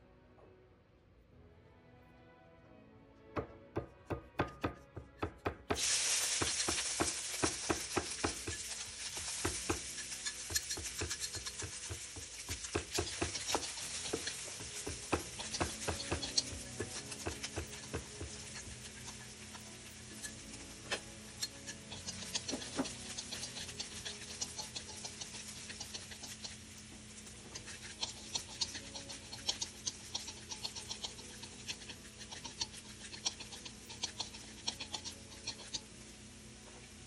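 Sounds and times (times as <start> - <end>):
utensil scraping pan: 5.7 - 35.9
oil crackling and spitting: 5.8 - 36.0.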